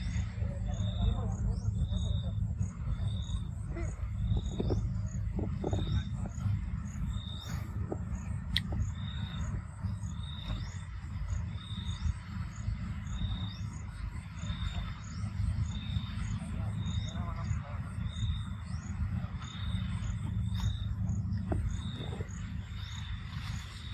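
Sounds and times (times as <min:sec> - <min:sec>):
faint high insect ticking: 0:00.0 - 0:23.9
insect high chirp: 0:00.0 - 0:23.9
steady low rumble: 0:00.0 - 0:23.9.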